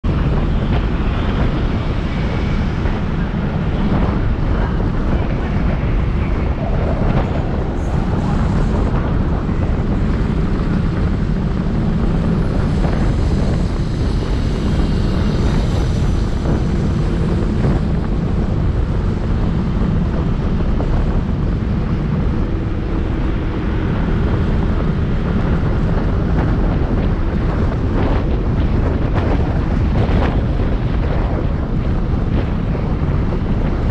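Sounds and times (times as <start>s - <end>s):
wind rush on microphone: 0.0s - 33.9s.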